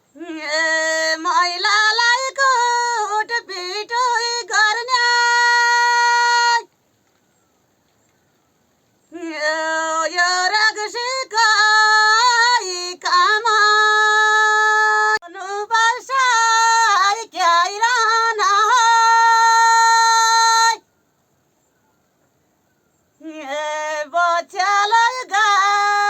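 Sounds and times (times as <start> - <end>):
high voice singing unaccompanied: 0.1 - 6.7, 9.1 - 20.8, 23.2 - 26.0.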